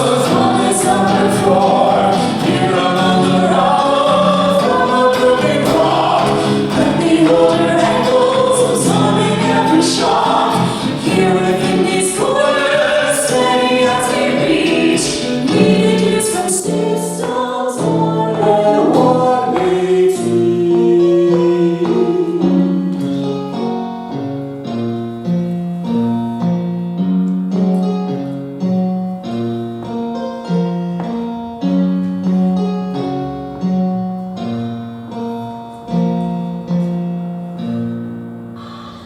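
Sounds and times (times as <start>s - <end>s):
piano chords: 0.0s - 39.0s.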